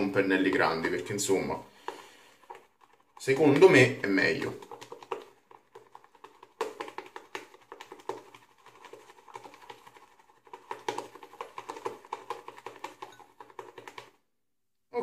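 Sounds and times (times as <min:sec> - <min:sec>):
brush knocking against bowl: 0:00.0 - 0:14.2
shaving brush wet strokes: 0:00.0 - 0:14.2.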